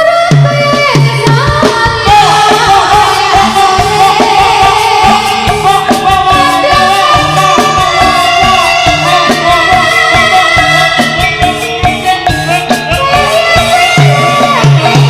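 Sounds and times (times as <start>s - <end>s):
drum strokes: 0.0s - 15.0s
person singing: 0.0s - 15.0s
gamelan music: 1.6s - 15.0s.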